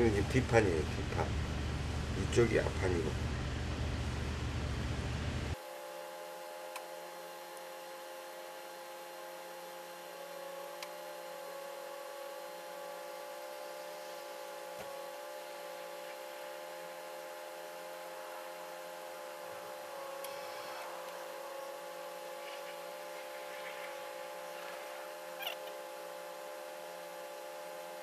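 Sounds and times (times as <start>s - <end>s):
hum of held tones: 0.0s - 28.0s.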